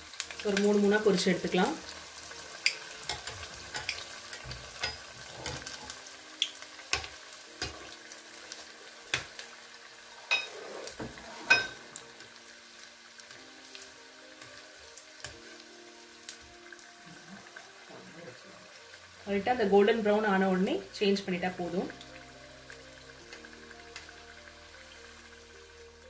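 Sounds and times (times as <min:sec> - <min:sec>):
deep-frying sizzle with pops: 0:00.0 - 0:26.0.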